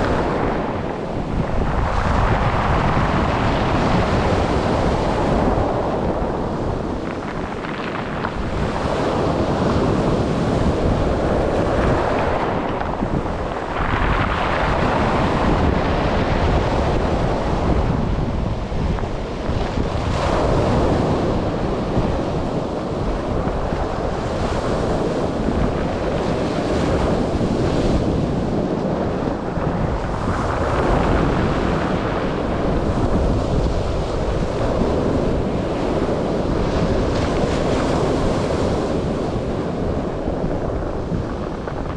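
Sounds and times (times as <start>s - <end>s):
sea waves breaking on shore: 0.0s - 41.9s
wind buffeting microphone: 0.0s - 41.9s.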